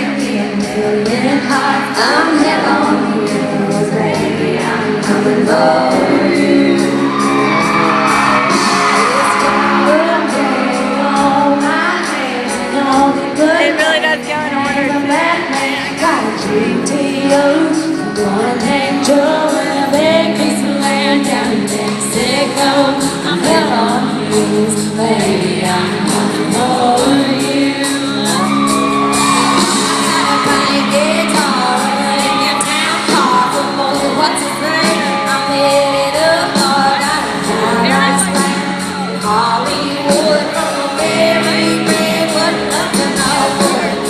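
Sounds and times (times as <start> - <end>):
country band playing live: 0.0 - 44.0
women singing: 0.0 - 44.0.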